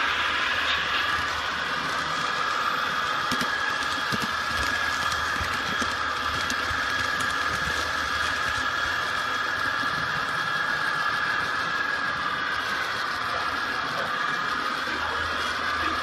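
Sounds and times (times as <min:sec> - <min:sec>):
model train motor whine: 0:00.0 - 0:16.0.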